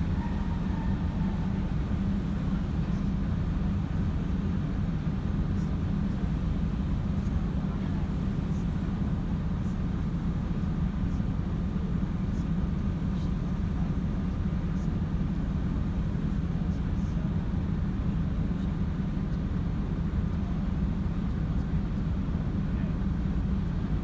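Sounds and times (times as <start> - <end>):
ferry engine humming: 0.0 - 24.0.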